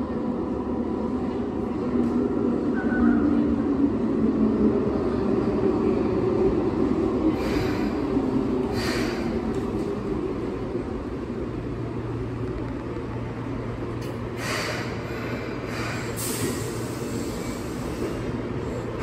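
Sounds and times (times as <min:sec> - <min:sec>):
train braking with low hum: 0:00.0 - 0:19.0
train rumble: 0:00.0 - 0:19.0.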